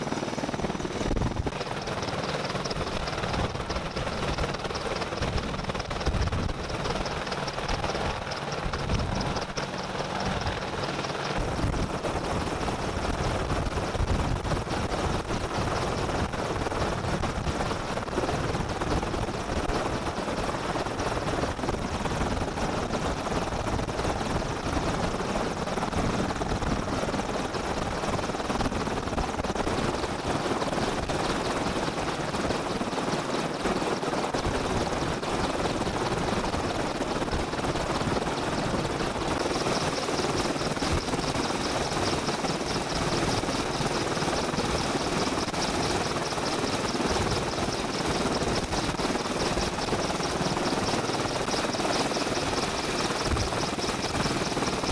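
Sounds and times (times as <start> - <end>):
helicopter engines and rotor: 0.0 - 54.9.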